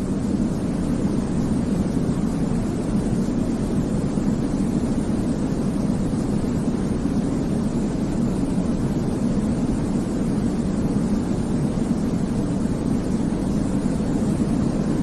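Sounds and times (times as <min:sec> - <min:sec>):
deep rumbling white noise: 0:00.0 - 0:15.0.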